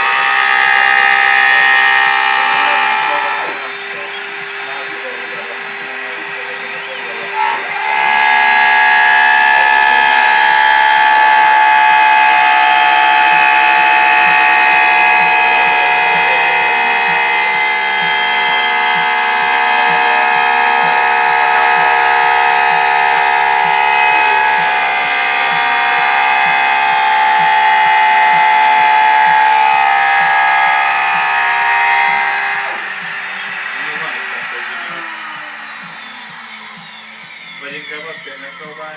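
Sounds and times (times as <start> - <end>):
machine whining: 0.0 - 38.9.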